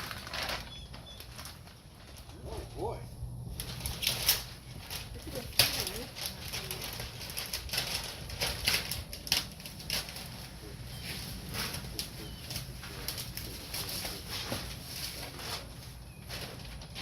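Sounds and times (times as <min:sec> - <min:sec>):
low steady hum: 0:00.0 - 0:17.0
packaging rustling and crinkling: 0:00.0 - 0:17.0.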